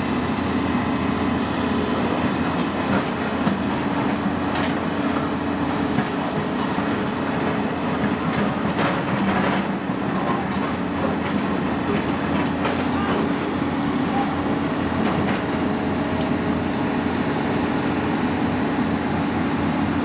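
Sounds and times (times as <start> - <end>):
heavy machinery humming: 0.0 - 20.0.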